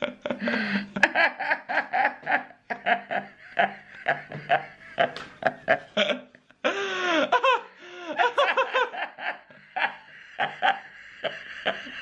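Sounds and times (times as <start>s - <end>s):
woman laughing hard: 0.0s - 12.0s.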